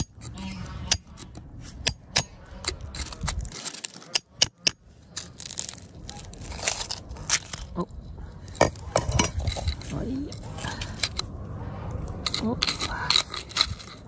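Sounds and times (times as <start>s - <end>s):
metal tool scraping soil: 0.0s - 14.0s.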